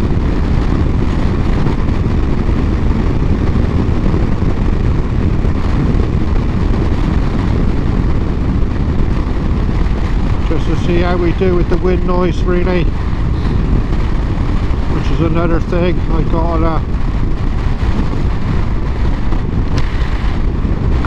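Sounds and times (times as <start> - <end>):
wind on microphone: 0.0 - 21.0.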